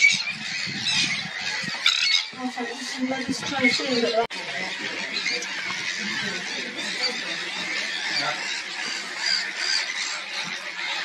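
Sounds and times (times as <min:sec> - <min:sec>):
loud bird calls: 0:00.0 - 0:11.0
tern colony calling: 0:00.0 - 0:11.0.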